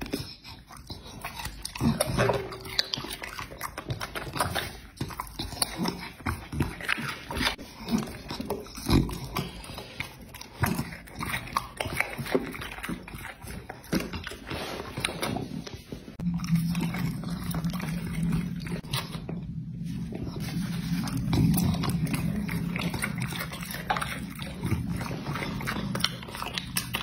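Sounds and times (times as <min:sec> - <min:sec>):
dog chewing and biting food: 0:00.0 - 0:27.0.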